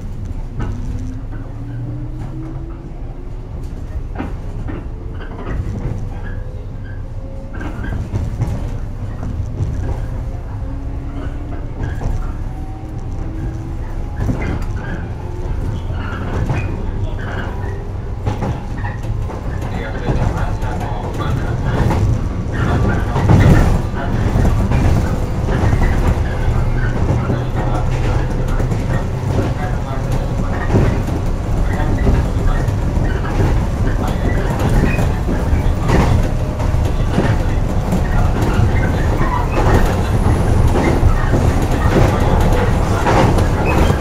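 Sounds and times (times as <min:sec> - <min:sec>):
train wheels and motors rumbling: 0:00.0 - 0:44.0
wheels knocking on track: 0:07.5 - 0:44.0.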